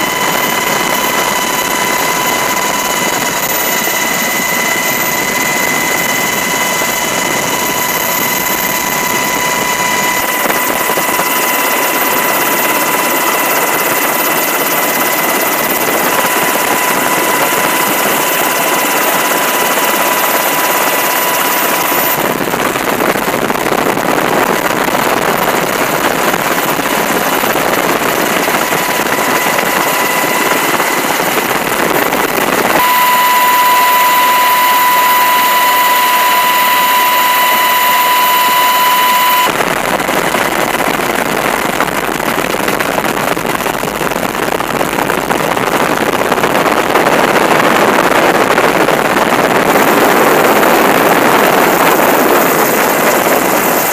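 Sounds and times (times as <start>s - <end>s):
helicopter rotor and turbine roar: 0.0s - 53.9s
high turbine whine: 0.0s - 53.9s.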